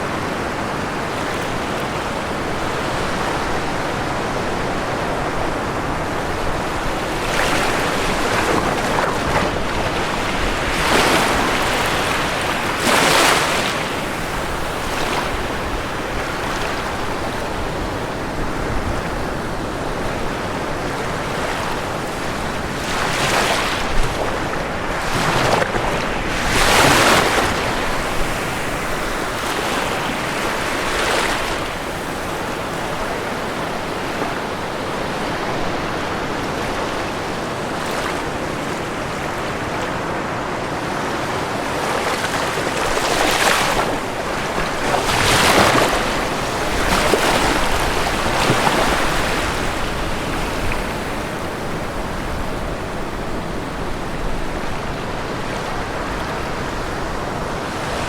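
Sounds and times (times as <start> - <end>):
ocean waves crashing: 0.0 - 58.0
steady wash of surf: 0.0 - 58.0.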